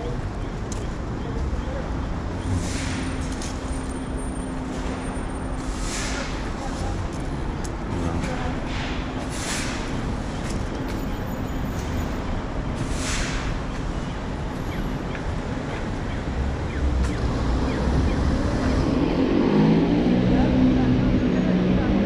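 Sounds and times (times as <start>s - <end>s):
cars going by: 0.0s - 22.0s
low engine rumble: 0.0s - 22.0s.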